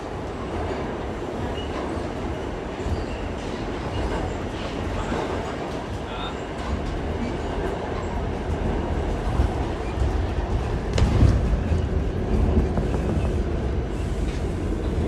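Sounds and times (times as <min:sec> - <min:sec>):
subway train rumble and wheel clatter: 0:00.0 - 0:15.0.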